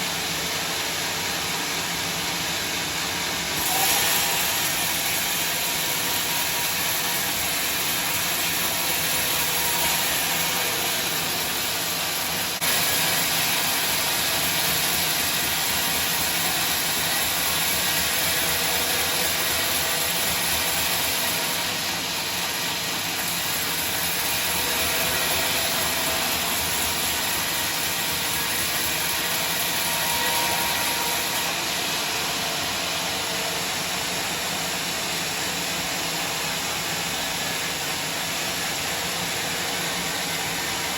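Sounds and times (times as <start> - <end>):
sawmill machinery hissing: 0.0 - 40.9.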